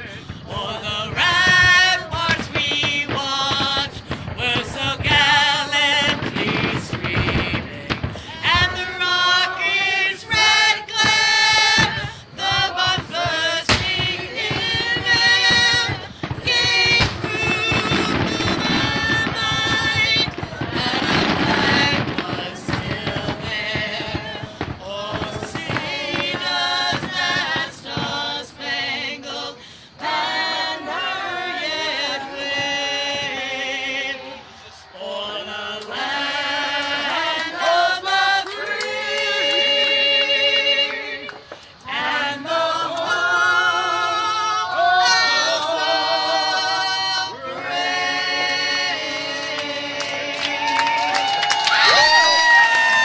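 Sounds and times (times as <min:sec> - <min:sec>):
choir singing: 0:00.0 - 0:51.2
firework bangs: 0:00.0 - 0:53.0.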